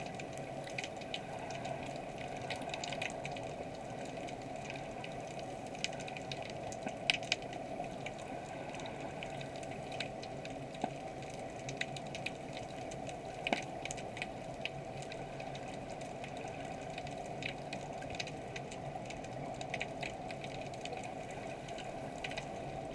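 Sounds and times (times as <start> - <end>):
sharp clicks and crackles: 0.0 - 22.6
underwater hum: 0.0 - 22.9.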